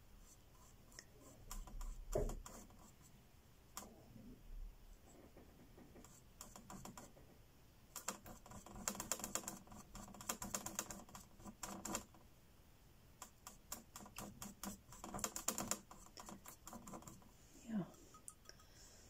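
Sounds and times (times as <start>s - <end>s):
paintbrush tapping and scratching: 0.2s - 4.0s, 4.9s - 12.3s, 13.2s - 18.8s.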